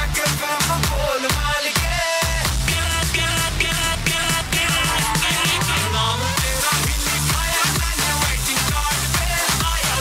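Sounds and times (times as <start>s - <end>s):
dance music with heavy bass: 0.0s - 10.0s.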